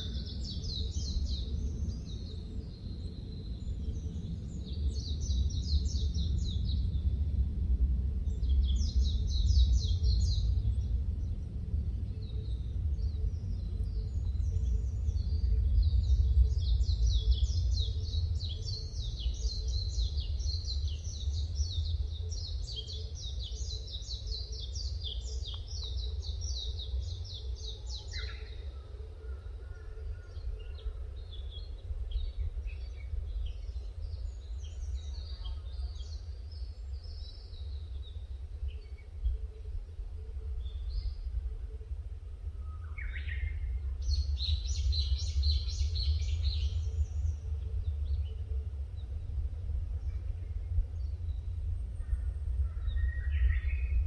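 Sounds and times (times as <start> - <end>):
birds chirping: 0.0 - 7.3, 8.1 - 54.0
low rumble: 0.0 - 54.0.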